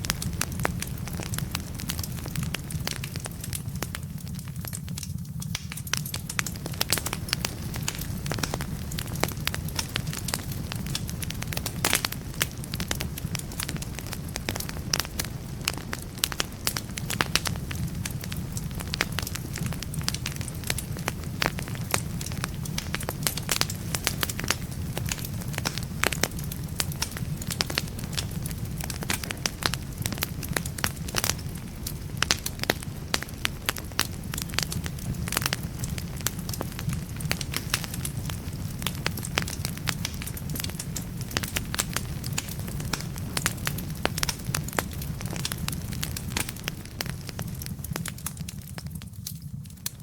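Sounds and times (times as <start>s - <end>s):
fire burning: 0.0s - 50.0s
logs crackling and popping: 0.0s - 50.0s.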